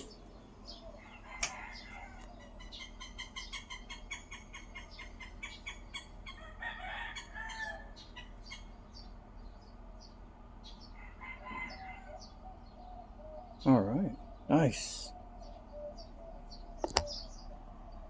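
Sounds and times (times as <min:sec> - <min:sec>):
birds chirping: 0:00.0 - 0:18.0
longer bird call: 0:00.0 - 0:18.0.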